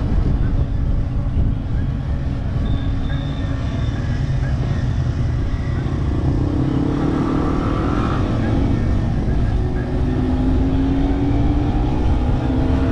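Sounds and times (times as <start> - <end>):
motorcycle engine rumble: 0.0 - 12.9
wind and road noise: 0.0 - 12.9.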